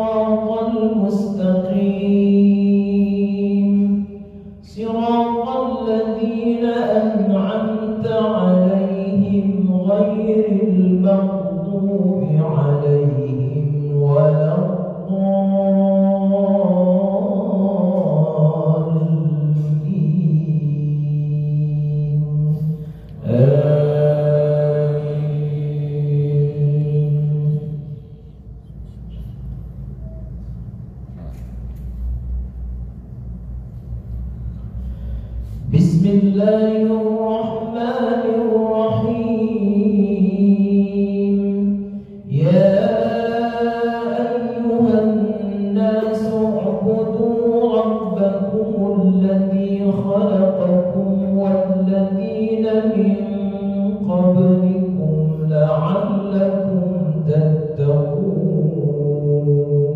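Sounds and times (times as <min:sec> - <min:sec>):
man chanting prayer: 0:00.0 - 0:30.5, 0:35.3 - 0:59.9.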